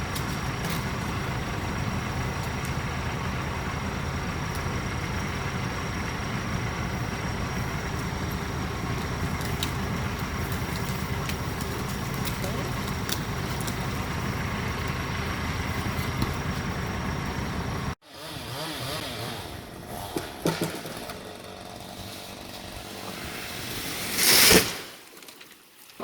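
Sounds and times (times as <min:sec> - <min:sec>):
chainsaw engine running: 0:00.0 - 0:24.4.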